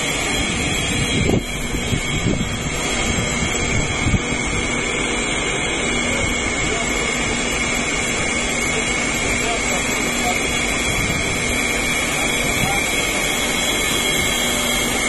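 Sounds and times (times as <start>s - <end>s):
low buffets: 0.0s - 15.0s
machine running with high whine: 0.0s - 15.0s.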